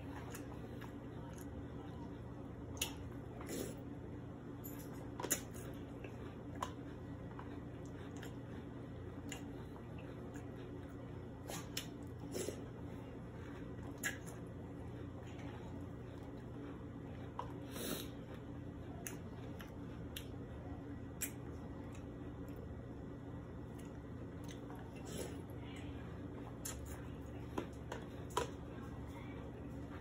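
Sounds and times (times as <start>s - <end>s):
person chewing cereal: 0.0s - 4.2s, 5.0s - 30.0s
faint steady hum: 0.0s - 30.0s.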